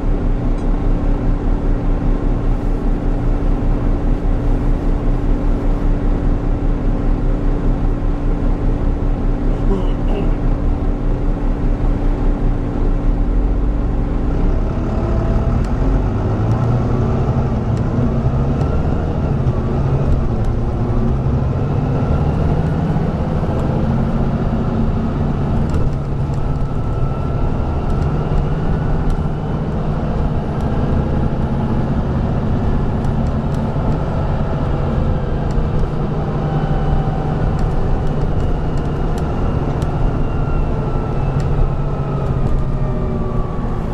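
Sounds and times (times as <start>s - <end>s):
bus diesel engine running: 0.0s - 43.9s
drivetrain whine: 0.0s - 43.9s.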